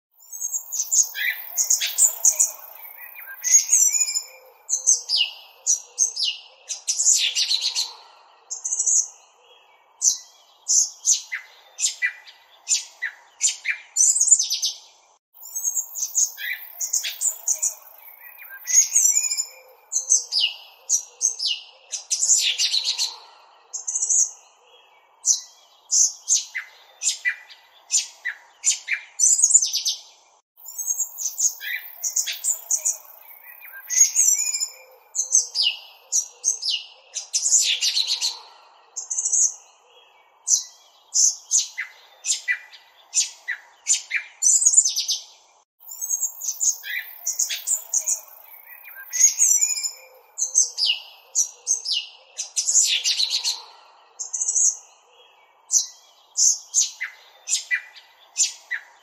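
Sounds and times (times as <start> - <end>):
small songbirds chirping: 0.1 - 59.0.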